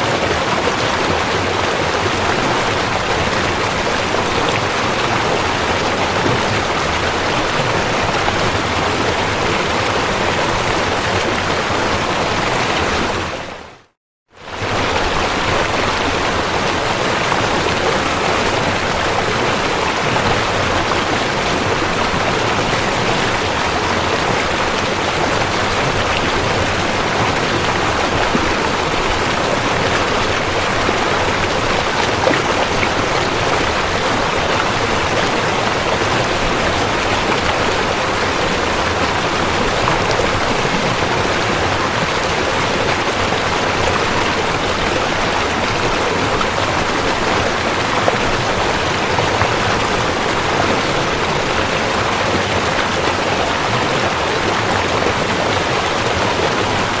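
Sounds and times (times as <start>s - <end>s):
river water rushing: 0.0s - 13.8s, 14.4s - 57.0s.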